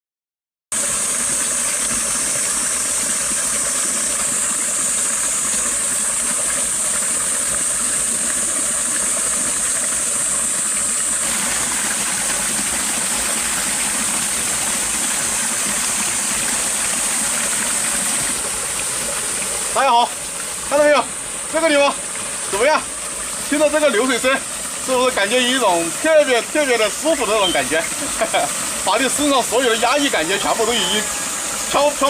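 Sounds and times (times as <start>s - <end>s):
spring water running and splashing: 0.7s - 32.0s.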